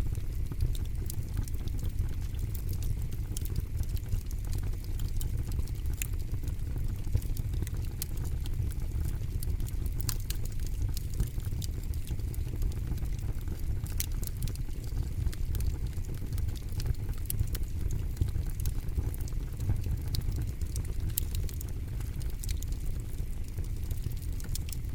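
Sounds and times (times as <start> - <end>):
campfire crackles and pops: 0.0 - 24.9
low rumble of fire: 0.0 - 24.9.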